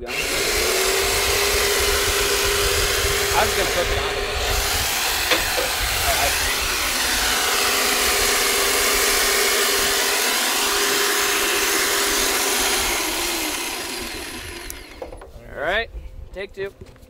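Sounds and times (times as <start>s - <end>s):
electric winch motor humming: 0.0s - 15.2s.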